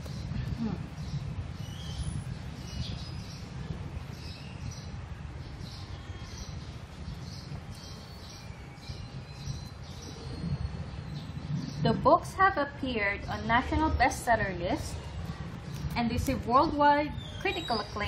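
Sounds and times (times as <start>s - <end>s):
birds chirping faintly: 0.0s - 18.0s
steady low rumble: 0.0s - 18.0s.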